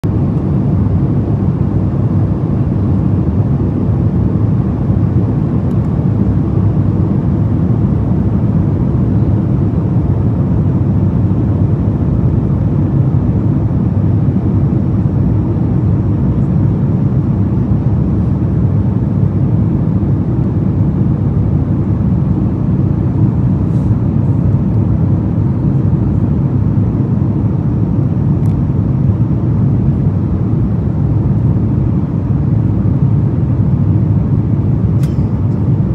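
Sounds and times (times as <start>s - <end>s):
jet engine cabin rush: 0.1s - 35.9s.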